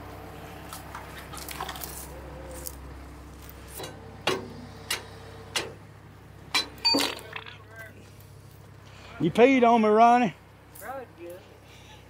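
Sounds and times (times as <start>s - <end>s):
low machinery rumble: 0.0s - 12.0s.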